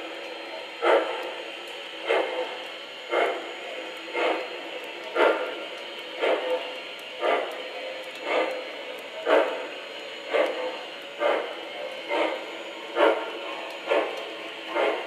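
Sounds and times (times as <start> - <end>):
model steam locomotive chuffing: 0.0 - 15.0
train rolling: 0.0 - 15.0.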